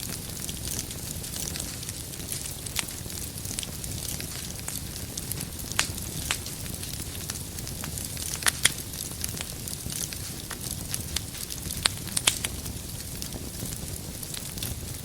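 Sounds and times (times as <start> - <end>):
fire crackling and popping: 0.0 - 15.0
fire rumbling and hissing: 0.0 - 15.0.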